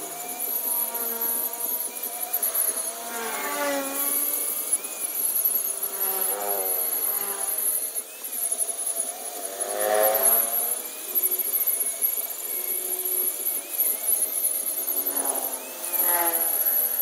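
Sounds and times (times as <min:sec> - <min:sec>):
power tool motor whine: 0:00.0 - 0:17.0.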